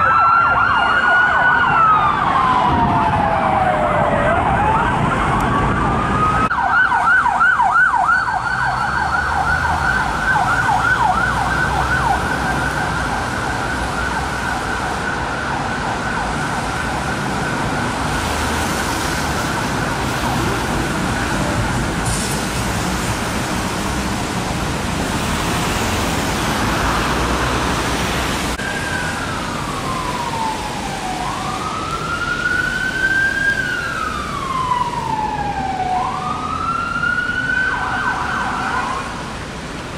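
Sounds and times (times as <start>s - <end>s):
siren yelp: 0.0s - 22.0s, 28.6s - 39.3s
siren wail: 0.0s - 23.1s, 25.1s - 39.4s
traffic noise: 0.0s - 39.9s.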